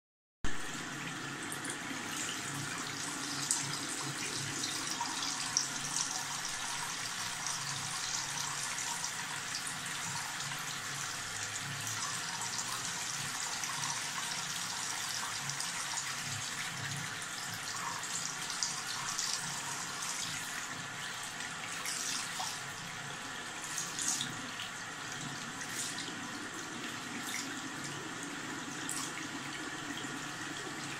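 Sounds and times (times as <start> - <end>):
tap water running into sink: 0.5 - 30.9.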